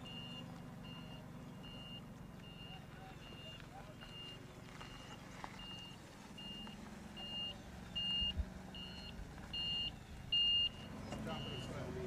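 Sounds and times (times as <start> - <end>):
reversing alarm beeping: 0.0 - 11.9.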